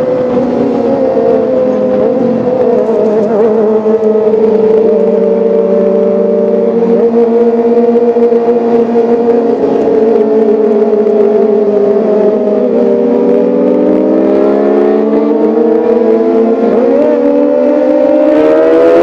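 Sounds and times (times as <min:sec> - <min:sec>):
motorcycle engine running high: 0:00.0 - 0:19.0.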